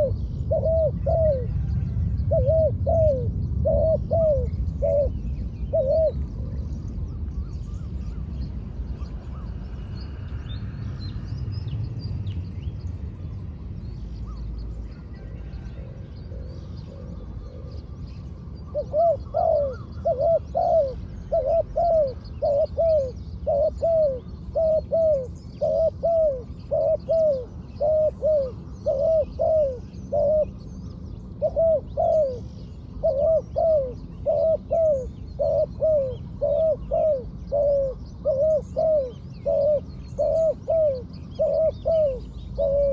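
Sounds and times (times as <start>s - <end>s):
dove cooing: 0.0s - 8.3s, 14.2s - 30.7s, 31.3s - 42.9s
small birds chirping: 0.0s - 42.9s.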